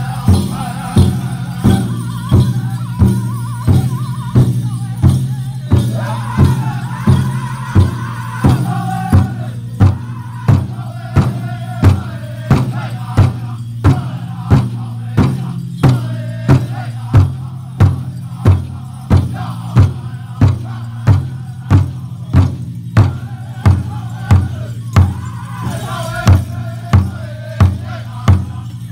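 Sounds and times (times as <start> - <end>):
bass drum steady beat: 0.0 - 28.9
high singing voices: 0.0 - 28.9.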